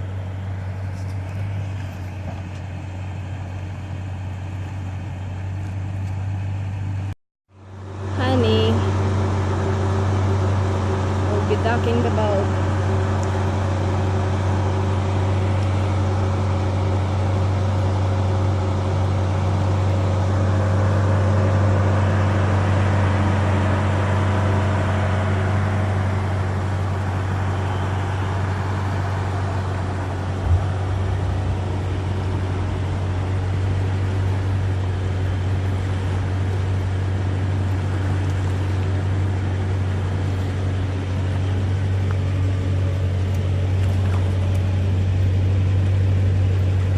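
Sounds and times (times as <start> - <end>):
engine running at low speed: 0.0 - 46.9.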